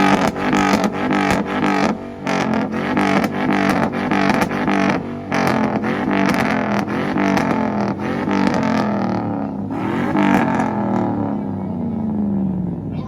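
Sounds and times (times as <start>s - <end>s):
pickup engine revving: 0.0s - 12.9s
exhaust cracks: 0.0s - 13.0s.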